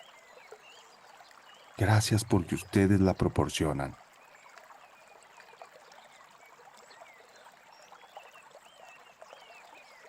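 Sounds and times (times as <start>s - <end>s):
soft bird chirps: 0.0s - 10.0s
stream flowing: 0.0s - 10.0s.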